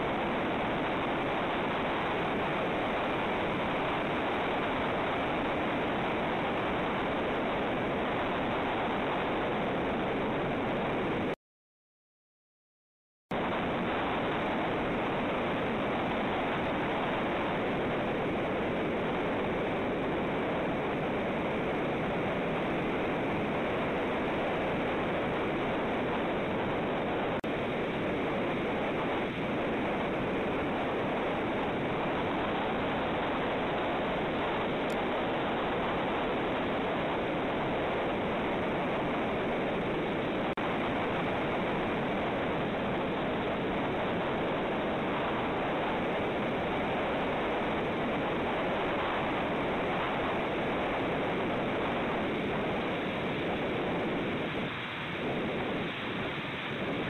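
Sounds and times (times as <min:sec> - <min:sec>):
wind: 0:00.0 - 0:11.4, 0:13.3 - 0:57.0.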